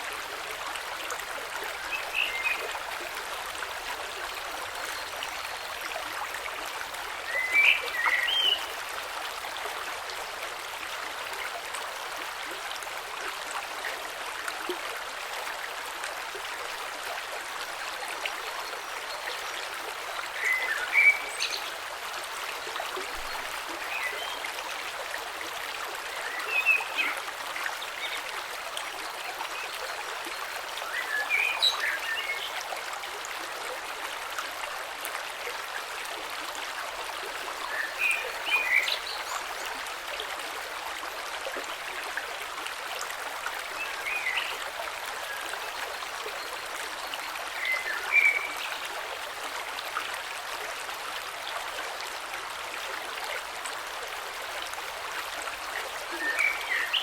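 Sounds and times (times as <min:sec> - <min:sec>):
creek flowing over stones: 0:00.0 - 0:57.0.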